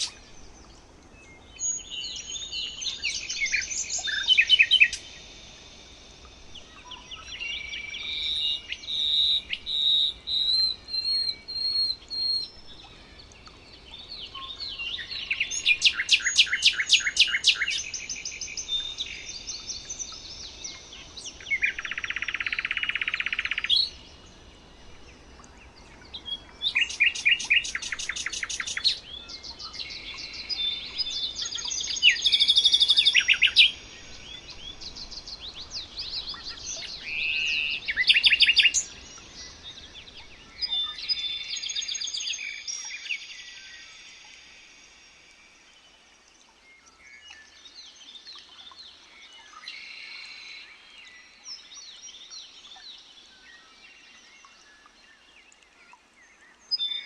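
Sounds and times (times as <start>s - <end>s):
faint background noise: 0.0s - 57.0s
songbirds singing: 0.0s - 57.0s.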